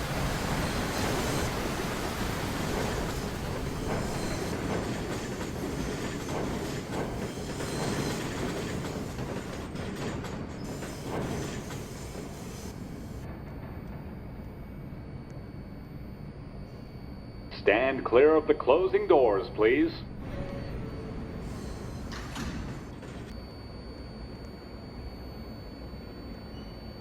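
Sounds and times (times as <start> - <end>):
subway train running: 0.0 - 27.0.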